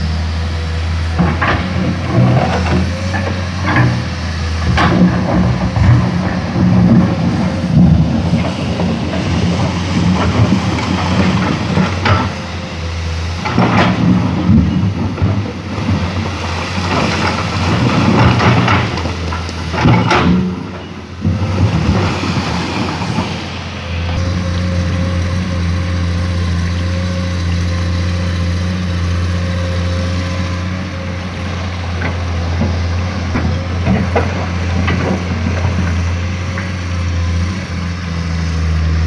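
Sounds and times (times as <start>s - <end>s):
excavator diesel engine running: 0.0s - 39.0s
excavator knocks and clanks: 0.0s - 39.0s.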